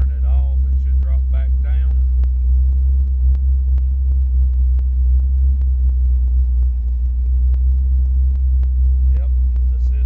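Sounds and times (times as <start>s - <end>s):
truck engine idling with ticks: 0.0s - 10.0s.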